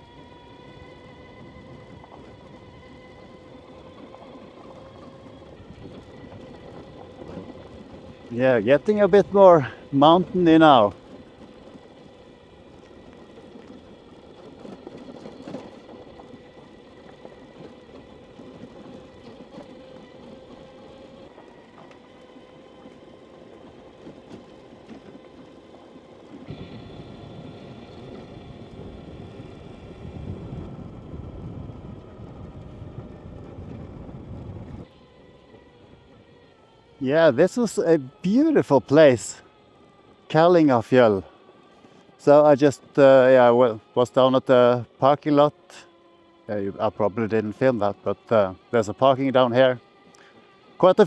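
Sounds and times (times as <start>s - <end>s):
electric motorcycle whine: 0.0s - 51.0s
tyre and road noise: 0.0s - 51.0s.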